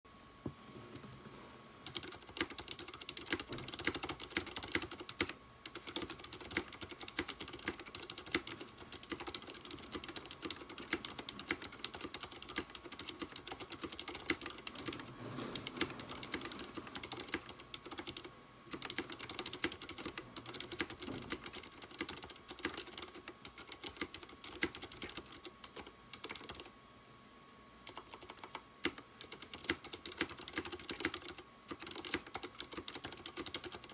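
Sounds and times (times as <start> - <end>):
mechanical keyboard typing: 1.8 - 26.7, 27.8 - 33.9.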